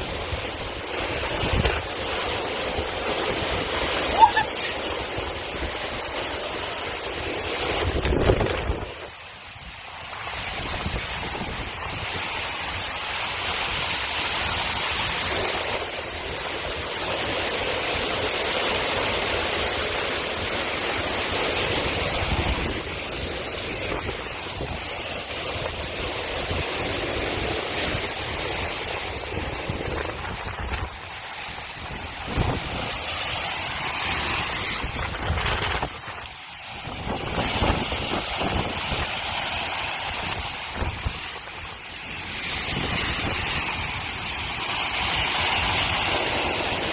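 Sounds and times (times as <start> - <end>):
hurricane wind rushing: 0.0 - 46.9
rushing water: 0.0 - 46.9.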